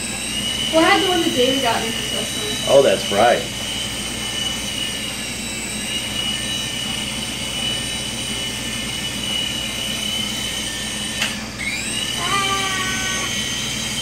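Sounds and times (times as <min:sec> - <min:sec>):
toy helicopter motors whining: 0:00.0 - 0:14.0.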